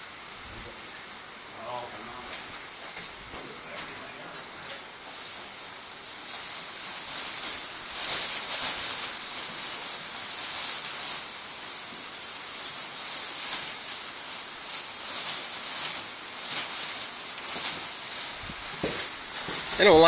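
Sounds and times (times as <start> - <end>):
plastic bag rustling: 0.2 - 20.0.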